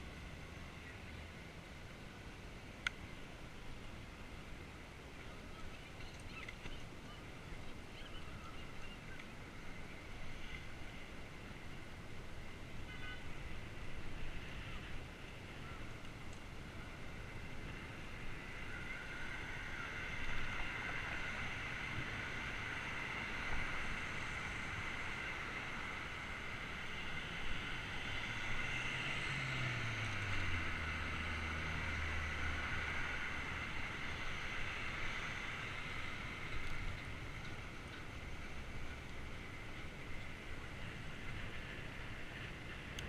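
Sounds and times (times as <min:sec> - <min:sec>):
wind and rolling noise: 0:00.0 - 0:43.0.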